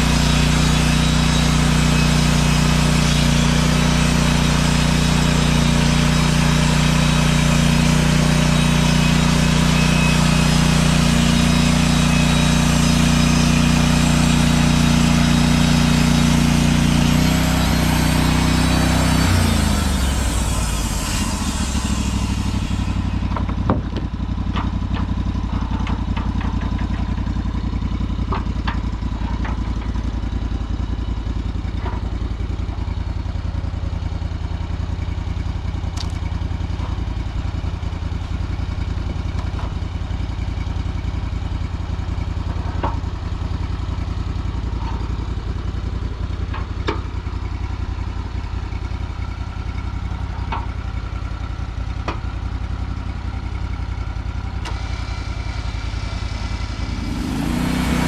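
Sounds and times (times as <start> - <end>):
gasoline engine running: 0.0 - 58.0.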